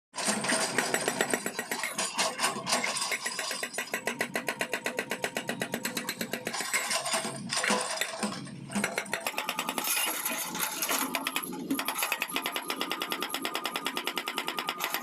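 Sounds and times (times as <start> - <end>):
hydraulic breaker hammering: 0.2 - 15.0.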